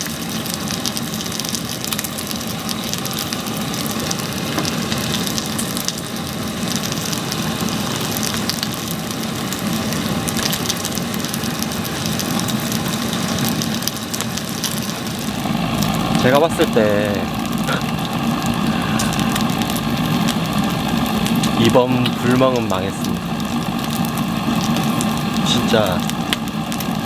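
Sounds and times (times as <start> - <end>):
firewood burning with crackles: 0.0 - 27.0.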